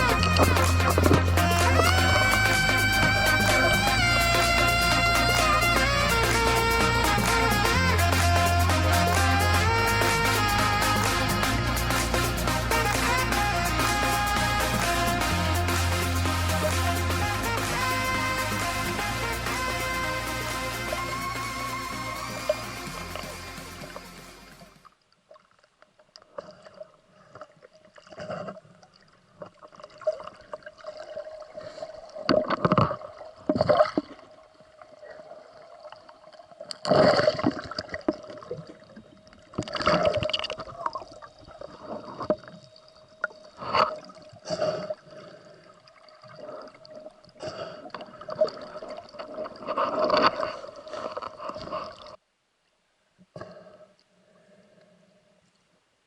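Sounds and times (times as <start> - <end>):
water gurgling and sloshing: 0.0 - 52.2.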